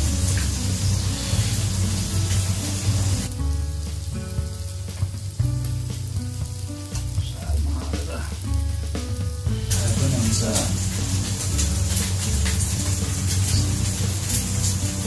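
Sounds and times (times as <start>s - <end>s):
background music with bass line: 0.0s - 15.0s
meat sizzling on a grill plate: 0.0s - 15.0s.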